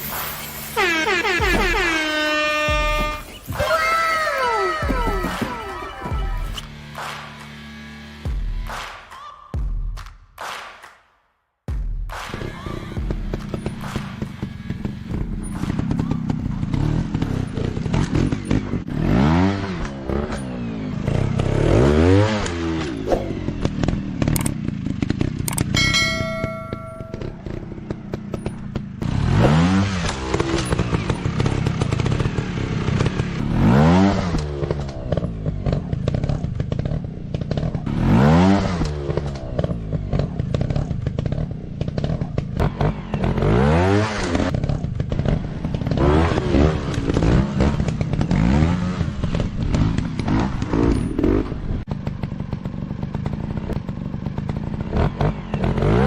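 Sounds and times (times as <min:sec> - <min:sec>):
dirt bike engines revving: 0:00.0 - 0:08.2, 0:12.3 - 0:56.0
drone of other bikes: 0:00.0 - 0:08.8, 0:12.3 - 0:56.0.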